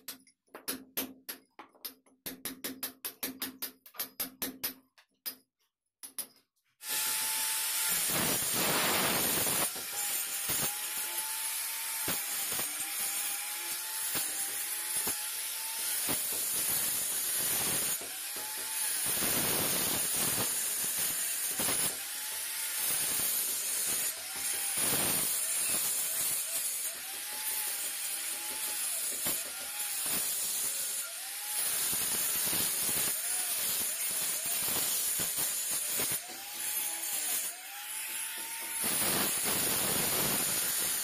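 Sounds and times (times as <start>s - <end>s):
wall cutter grinding brick: 6.8s - 41.0s.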